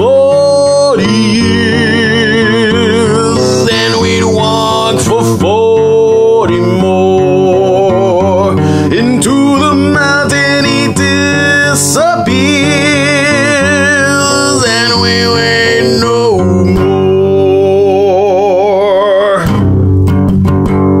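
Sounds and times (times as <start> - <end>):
man singing with vibrato: 0.0 - 19.7
strummed acoustic guitar: 0.0 - 21.0.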